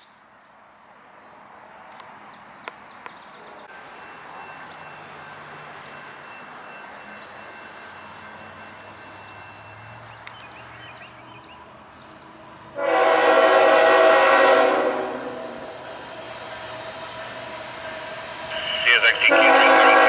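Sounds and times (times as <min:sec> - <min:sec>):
outdoor ambience: 0:00.0 - 0:20.0.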